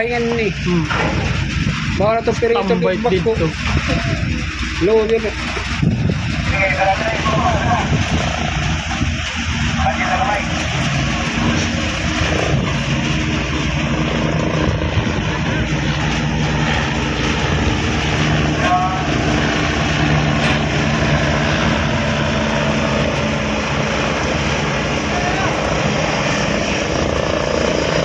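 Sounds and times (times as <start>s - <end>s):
ship engine humming: 0.0s - 28.0s.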